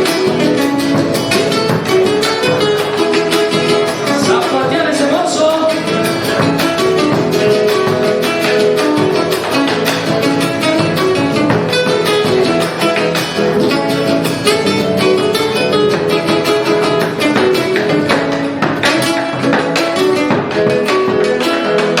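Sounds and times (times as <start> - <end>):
lead guitar melody: 0.0 - 22.0
strummed rhythm guitar: 0.0 - 22.0.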